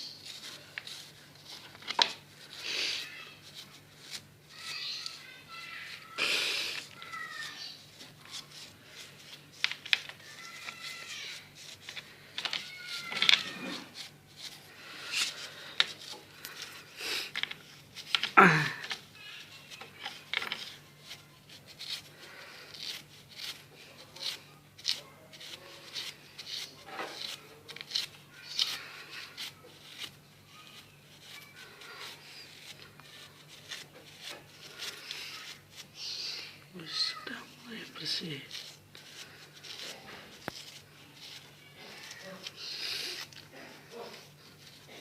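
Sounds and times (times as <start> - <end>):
scraping and rubbing strokes: 0.0 - 45.0.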